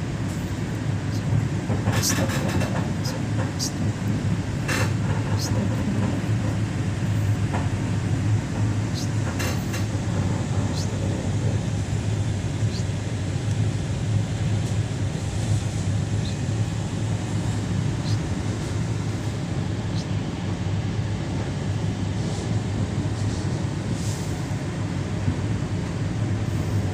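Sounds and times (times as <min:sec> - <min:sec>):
train rumble and hum: 0:00.0 - 0:26.9.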